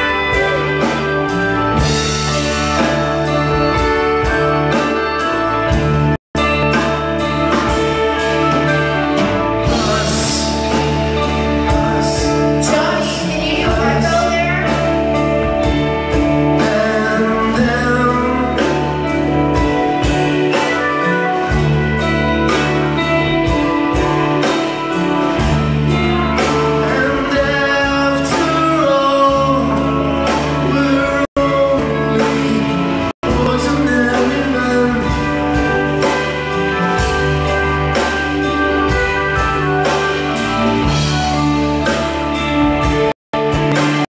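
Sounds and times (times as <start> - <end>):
live band playing: 0.0 - 44.0
person singing: 6.4 - 44.0.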